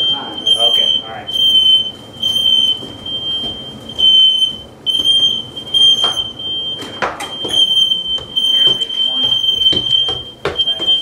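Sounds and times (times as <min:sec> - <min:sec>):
smoke alarms beeping: 0:00.0 - 0:11.0.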